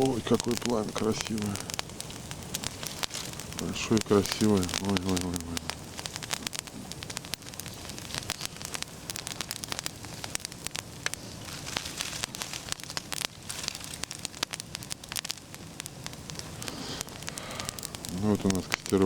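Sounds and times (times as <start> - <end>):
campfire popping crackles: 0.0 - 19.0
steam hissing from wet wood: 0.0 - 19.0.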